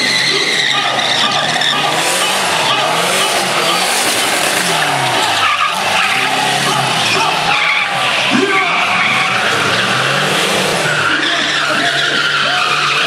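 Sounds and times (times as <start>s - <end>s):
car engine revving: 0.0s - 13.0s
tyres squealing: 0.0s - 13.0s.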